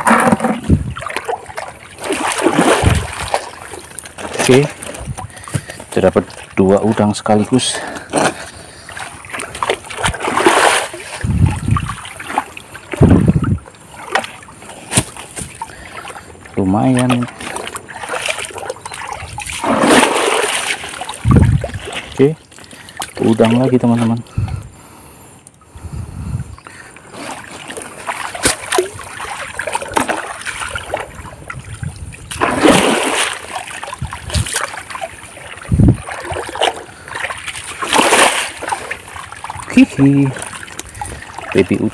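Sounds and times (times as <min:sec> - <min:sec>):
water splashing around wading person: 0:00.0 - 0:24.6, 0:26.7 - 0:41.9.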